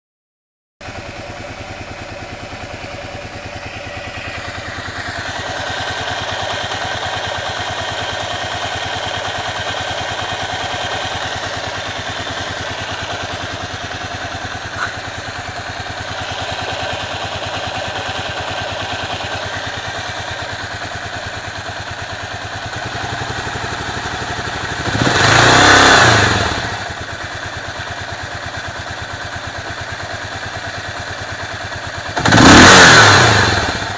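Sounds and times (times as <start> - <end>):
motorcycle engine running: 0.8 - 33.9.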